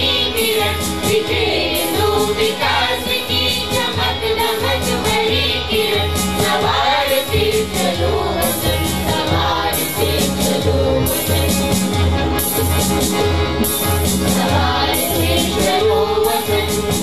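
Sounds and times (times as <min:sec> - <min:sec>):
children's choir singing: 0:00.0 - 0:11.8, 0:14.3 - 0:17.0.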